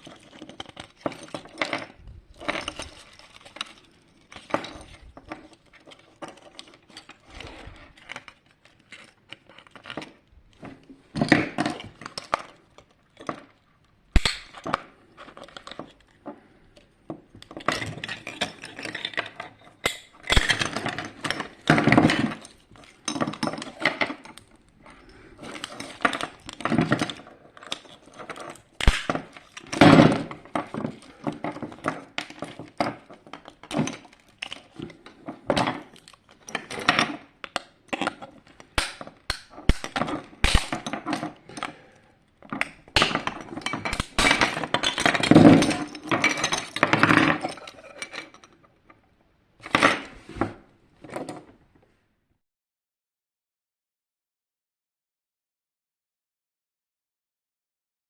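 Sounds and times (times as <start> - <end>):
small parts clicking and clinking: 0.0 - 49.0.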